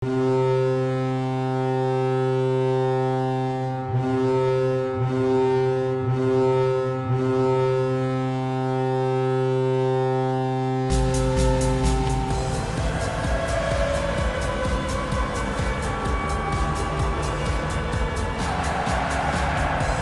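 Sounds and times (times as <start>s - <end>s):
air horn blast: 0.0s - 20.0s.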